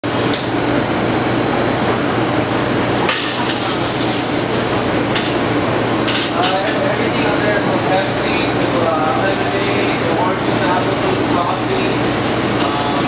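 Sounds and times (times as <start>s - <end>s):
room noise with low hum: 0.0s - 13.0s.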